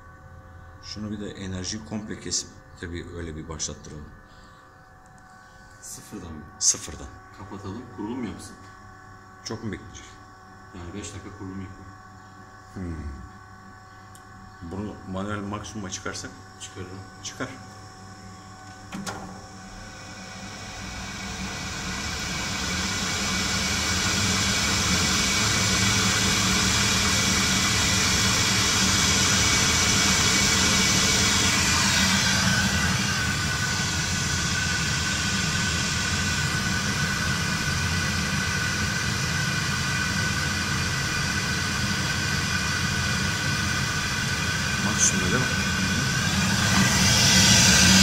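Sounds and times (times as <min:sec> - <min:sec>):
steady fan whine: 0:00.0 - 0:48.0
blower fan rushing air: 0:00.7 - 0:48.0.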